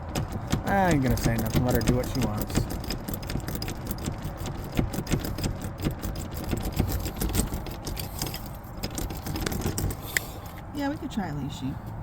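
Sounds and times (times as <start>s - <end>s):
lock pick clicking and scraping: 0.0s - 10.6s.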